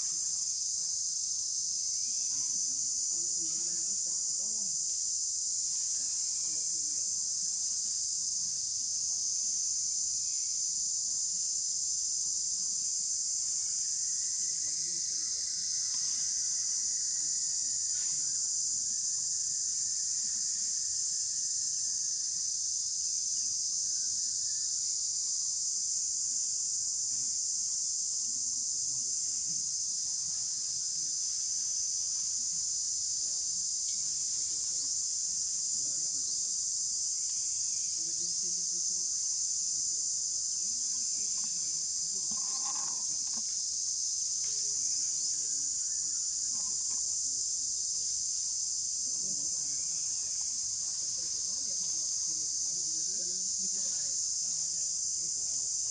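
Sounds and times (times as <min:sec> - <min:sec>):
insect chorus drone: 0:00.0 - 0:55.9.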